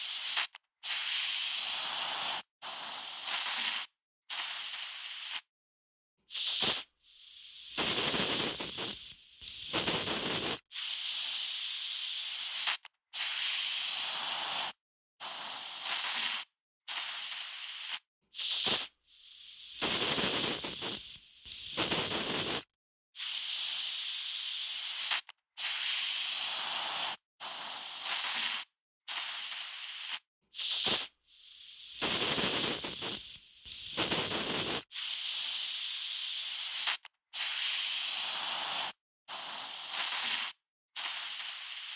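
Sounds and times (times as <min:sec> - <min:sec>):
aerosol spray can hissing: 0:00.0 - 0:05.4, 0:06.3 - 0:41.9.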